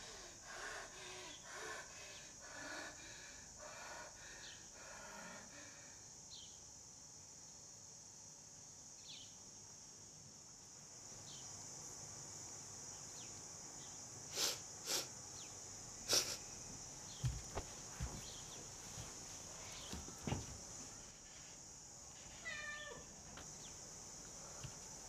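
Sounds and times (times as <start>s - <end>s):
insect chirring: 0.0s - 25.0s.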